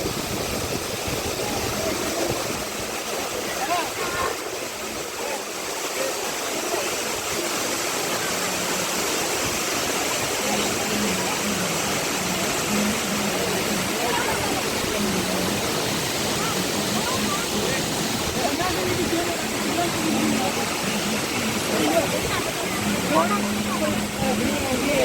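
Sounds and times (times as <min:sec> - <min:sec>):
faint voices: 0:00.0 - 0:25.0
waterfall rushing: 0:00.0 - 0:25.0.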